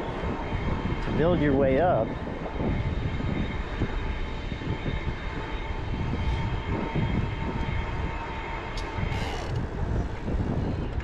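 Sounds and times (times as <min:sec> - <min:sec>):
faint road noise: 0:00.0 - 0:11.0
wind buffeting microphone: 0:00.0 - 0:11.0.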